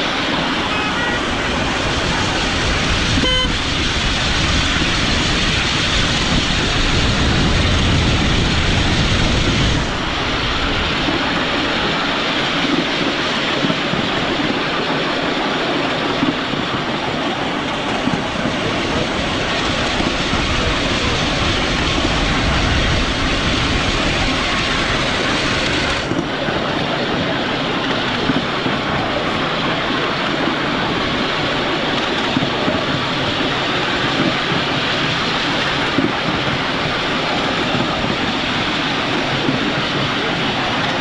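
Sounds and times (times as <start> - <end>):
miniature train running on track: 0.0 - 41.0.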